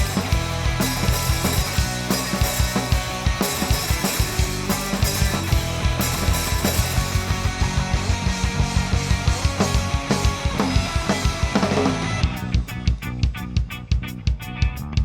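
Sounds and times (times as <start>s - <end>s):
instrumental rock band: 0.0s - 15.0s.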